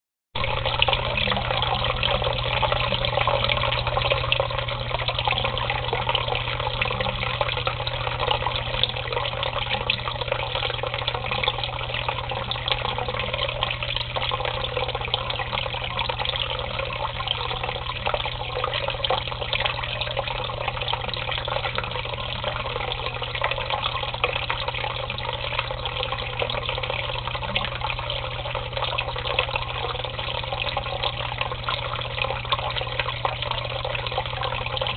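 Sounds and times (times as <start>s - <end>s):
steady low hum: 0.4s - 34.9s.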